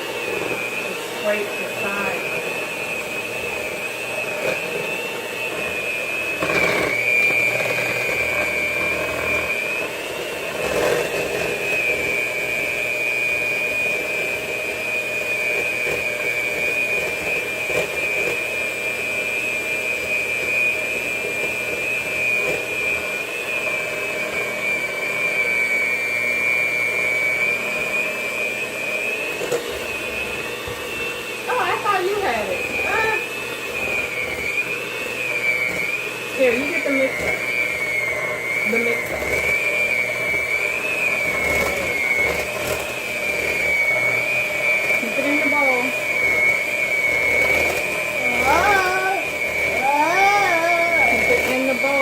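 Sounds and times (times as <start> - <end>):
electric mixer motor whine: 0.0 - 52.0.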